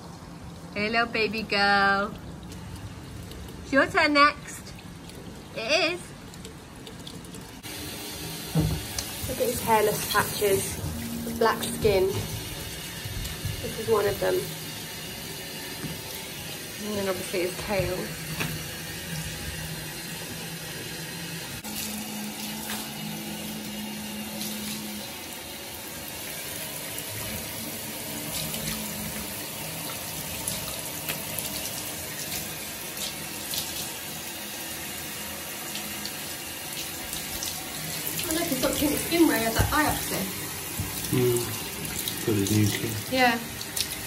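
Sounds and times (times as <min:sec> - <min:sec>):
shower water splashing on dog: 0:00.0 - 0:44.0.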